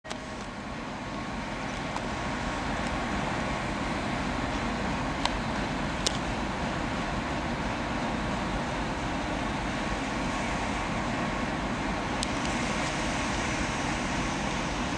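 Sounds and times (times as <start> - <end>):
locomotive diesel engine running: 0.1 - 14.9.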